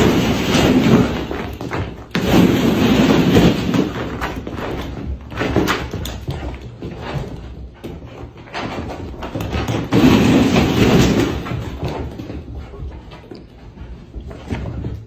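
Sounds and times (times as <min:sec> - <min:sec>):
dog knocks and thumps: 0:00.0 - 0:15.0
dog rumbling on floor: 0:00.0 - 0:15.0.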